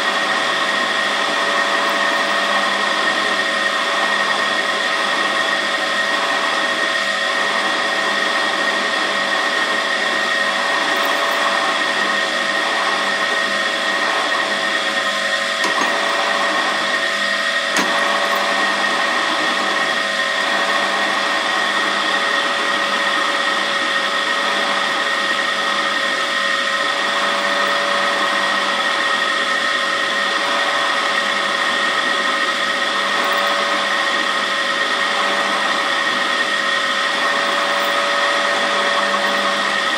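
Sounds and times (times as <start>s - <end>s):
drill bit boring into metal: 0.0s - 39.9s
drill press motor running: 0.0s - 39.9s.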